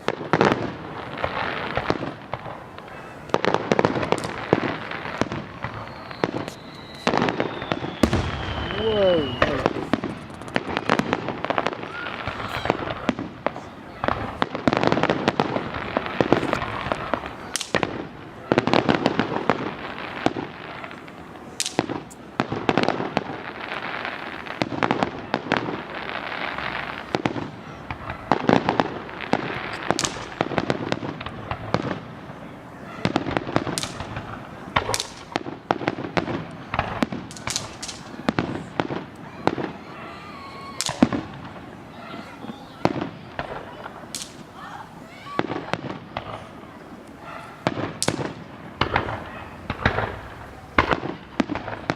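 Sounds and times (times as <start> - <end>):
fireworks bangs and pops: 0.0 - 51.9.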